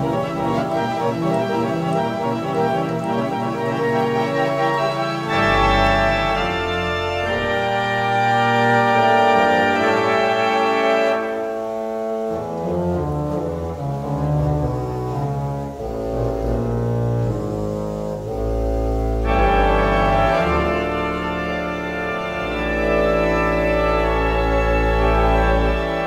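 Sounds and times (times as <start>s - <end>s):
theatre pipe organ playing chords: 0.0s - 26.0s.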